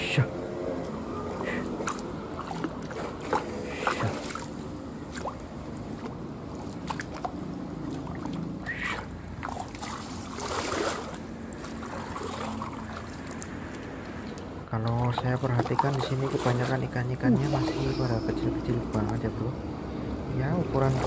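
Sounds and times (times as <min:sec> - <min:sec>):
wading through river water: 0:01.3 - 0:19.8, 0:20.4 - 0:21.0.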